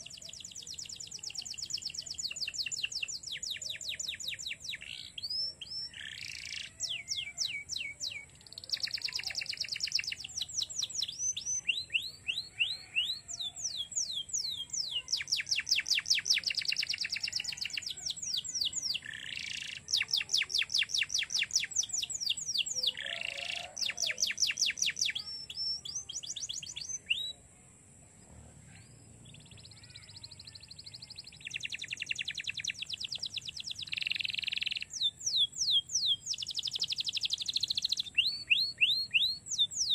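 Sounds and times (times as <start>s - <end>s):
canary singing trills: 0.0s - 27.6s, 28.2s - 39.9s.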